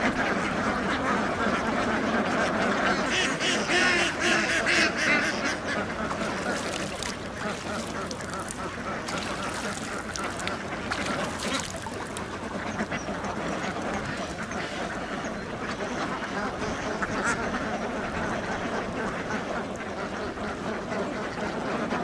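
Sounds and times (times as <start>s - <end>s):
flock of ducks quacking: 0.0s - 22.0s.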